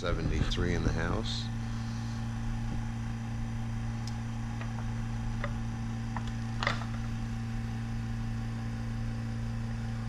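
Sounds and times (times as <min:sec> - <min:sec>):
heat pump humming: 0:00.0 - 0:10.0.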